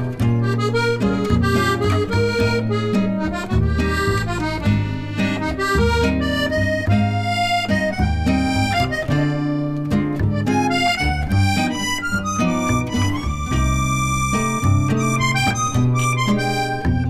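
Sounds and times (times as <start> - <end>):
instrumental song melody: 0.0 - 17.0.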